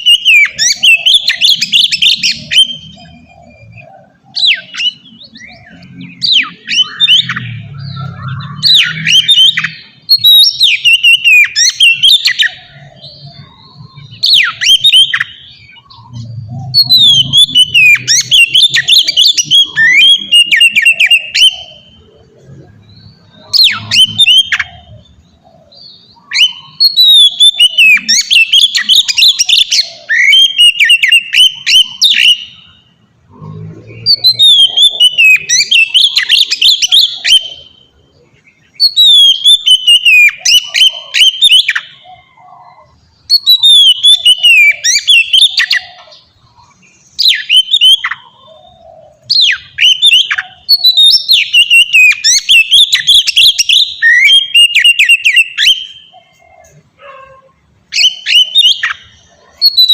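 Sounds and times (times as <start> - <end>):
bird singing whistles and chirps: 0.0 - 57.2, 57.9 - 59.9.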